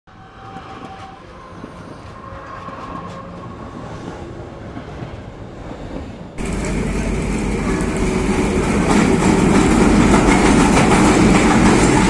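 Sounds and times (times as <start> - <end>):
train rumbling along rails: 0.1 - 12.0.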